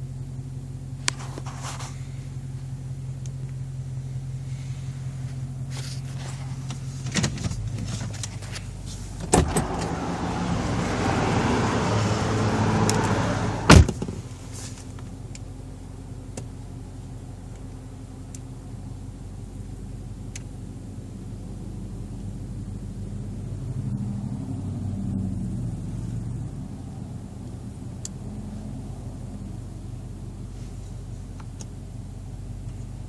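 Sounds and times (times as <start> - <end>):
car engine humming inside cabin: 0.0 - 33.0.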